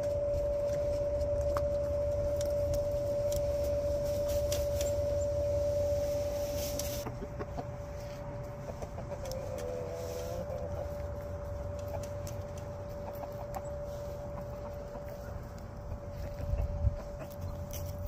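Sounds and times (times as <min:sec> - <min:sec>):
steady hum: 0:00.0 - 0:18.0
chickens clucking: 0:00.7 - 0:18.0.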